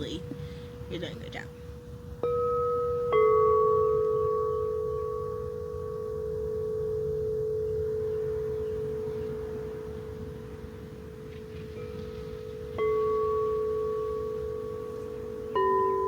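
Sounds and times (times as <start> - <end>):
singing bowls ringing: 0.0 - 16.0.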